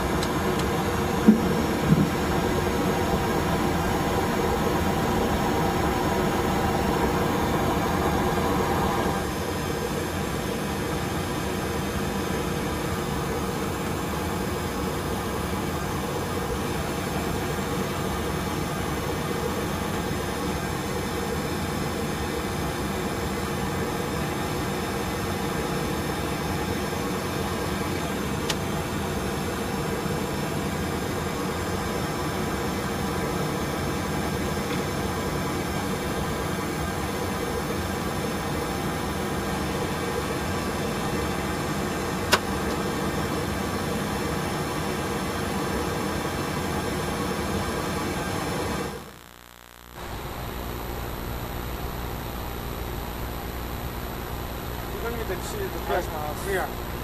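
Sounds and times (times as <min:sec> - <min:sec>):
aircraft cockpit hum: 0:00.0 - 0:57.0.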